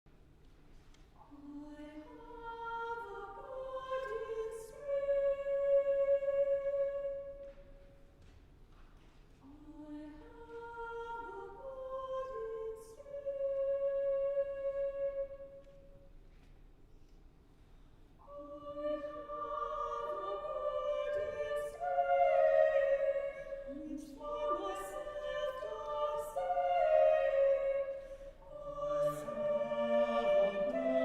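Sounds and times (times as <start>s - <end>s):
choir singing: 1.3s - 7.5s, 9.5s - 15.7s, 18.2s - 31.0s.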